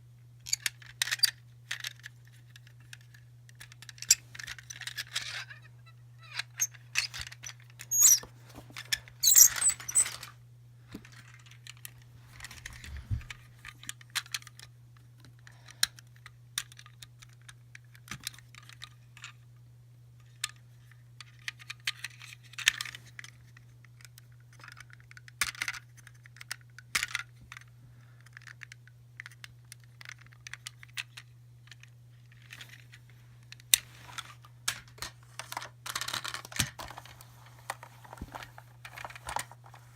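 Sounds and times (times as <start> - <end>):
plastic toys clicking and rattling: 0.4 - 5.6, 6.3 - 10.3, 11.1 - 14.7, 15.4 - 19.4, 21.2 - 39.9.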